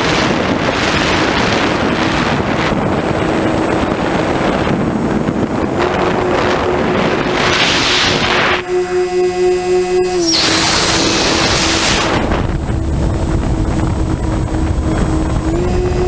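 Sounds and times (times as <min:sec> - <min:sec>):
electric motors and propellers humming: 0:00.0 - 0:16.0
wind rushing over microphone: 0:00.0 - 0:16.0.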